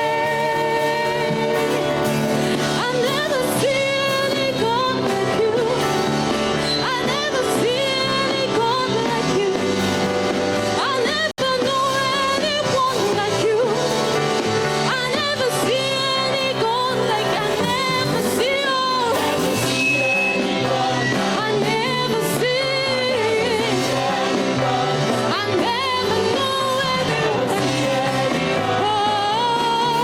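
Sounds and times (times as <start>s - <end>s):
worship band music with singing: 0.0s - 30.0s.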